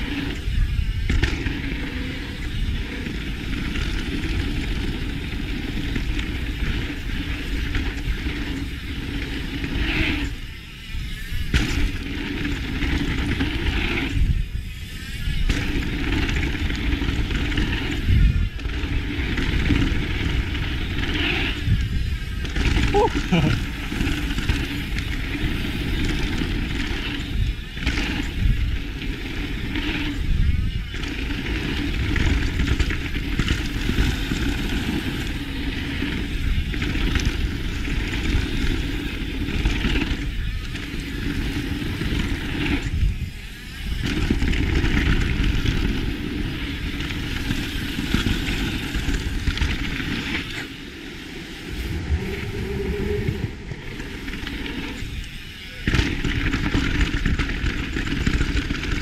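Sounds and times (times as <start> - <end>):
bike tyres rumbling over dirt: 0.0 - 59.0
wind on microphone: 0.0 - 59.0.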